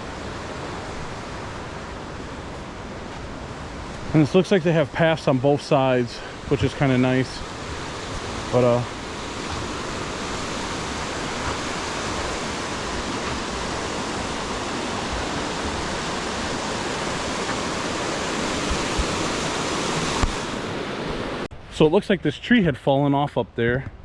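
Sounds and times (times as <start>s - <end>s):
rapids and waterfall rushing: 0.0s - 21.5s.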